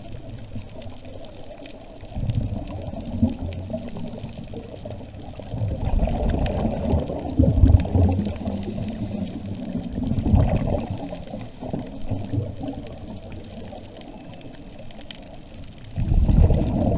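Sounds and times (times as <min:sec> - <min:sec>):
underwater bubbles gurgling: 0:00.0 - 0:16.9.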